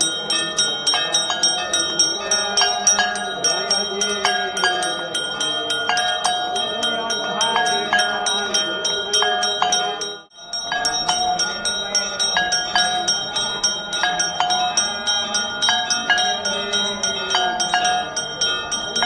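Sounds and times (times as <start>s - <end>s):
hand bells ringing rapidly: 0.0s - 19.0s.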